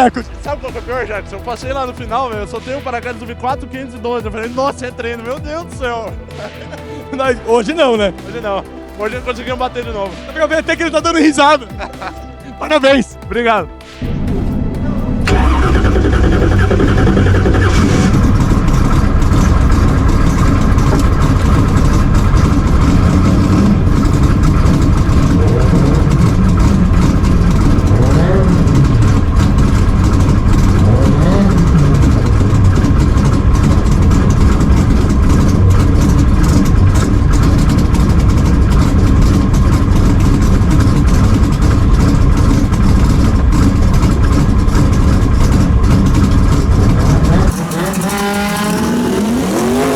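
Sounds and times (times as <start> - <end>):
car engine running loudly: 0.0 - 49.9.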